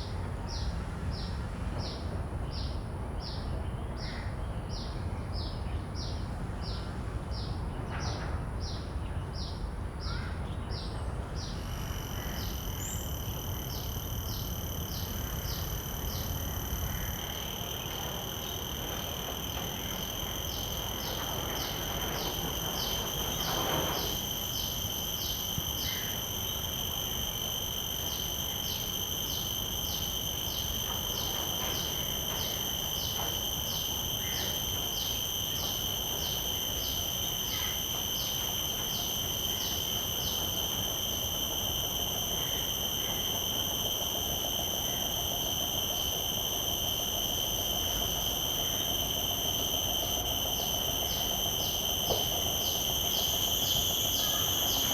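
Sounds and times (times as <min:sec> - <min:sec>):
cicada high-pitched whine: 0:00.0 - 0:54.9
cicada pulsed call: 0:00.0 - 0:54.9.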